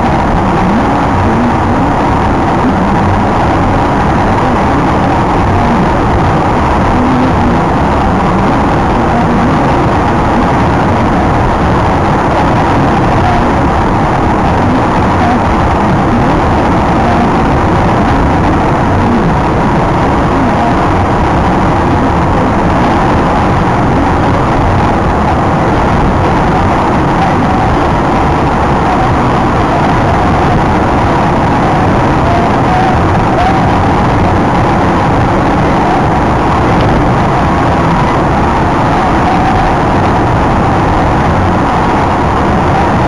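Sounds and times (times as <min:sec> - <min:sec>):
car cabin road and engine noise: 0:00.0 - 0:43.0.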